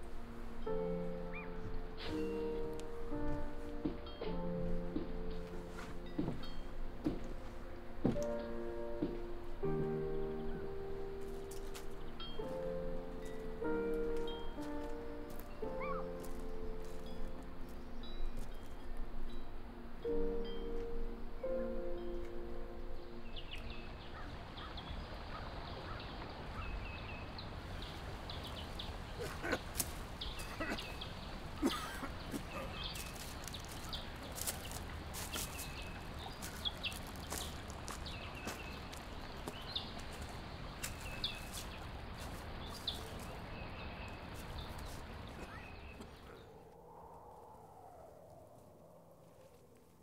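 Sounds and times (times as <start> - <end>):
footsteps through dry brush: 0.0 - 19.5, 23.0 - 50.0
small birds chirping: 0.0 - 49.5
steady outdoor hiss: 0.0 - 50.0.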